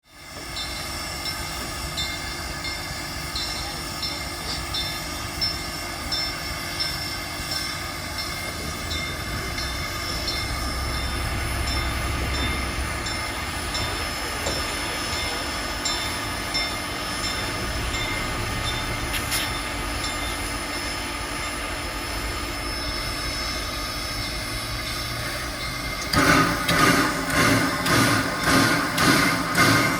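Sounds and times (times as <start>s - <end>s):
steam locomotive hissing: 0.0s - 29.9s.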